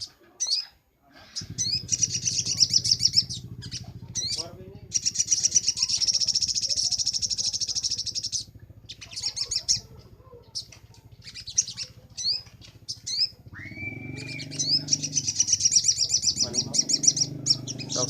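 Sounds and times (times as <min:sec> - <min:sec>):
bird chirps: 0:00.0 - 0:18.0
bird trilling: 0:00.0 - 0:18.0.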